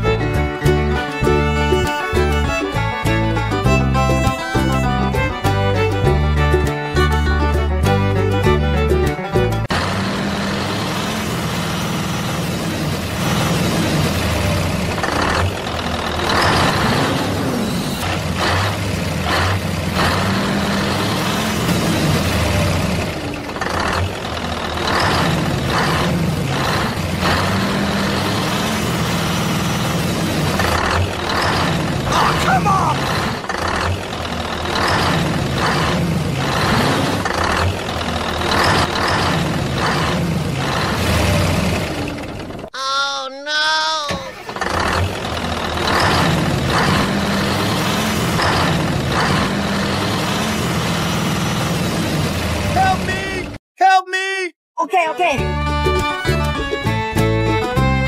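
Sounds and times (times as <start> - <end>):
truck engine running at low revs: 0.0 - 42.7, 44.4 - 53.6.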